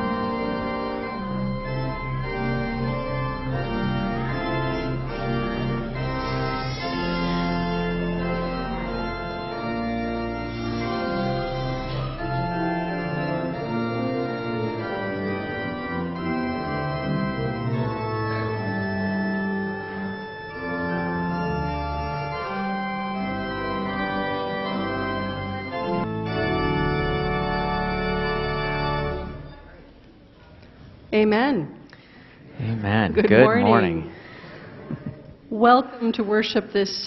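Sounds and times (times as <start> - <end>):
organ playing slow chords: 0.0 - 29.9, 32.6 - 34.5.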